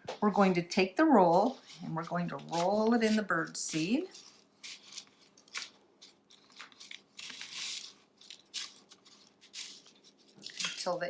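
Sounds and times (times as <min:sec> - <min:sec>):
birdseed rustling and crunching: 0:01.2 - 0:11.0.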